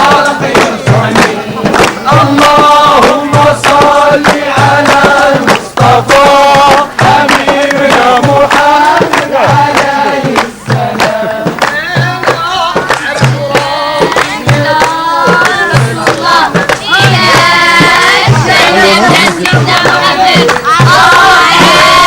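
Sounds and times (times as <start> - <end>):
group of voices singing: 0.0 - 22.0
low drum beat: 0.0 - 22.0.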